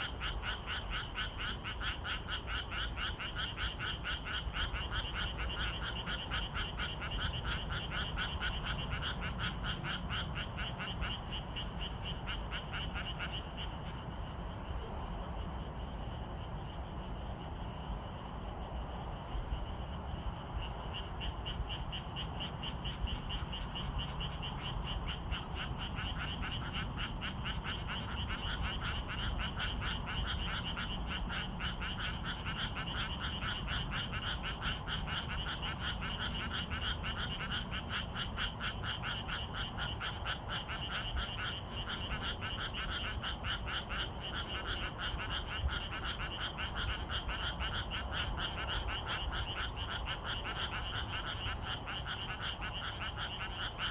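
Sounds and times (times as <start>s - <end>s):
chorus of frogs calling: 0.0s - 53.9s
steady low rumble: 8.7s - 53.3s.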